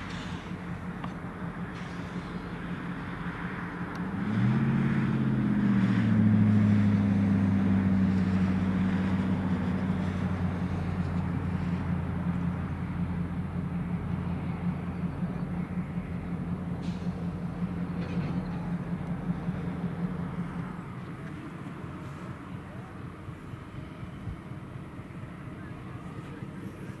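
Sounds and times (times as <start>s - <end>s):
locomotive engines throttling up: 0.0s - 27.0s.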